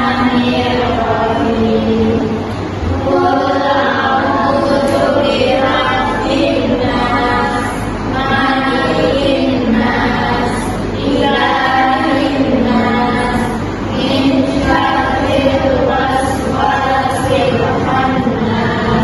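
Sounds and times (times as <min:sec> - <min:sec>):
voices singing in unison: 0:00.0 - 0:19.0.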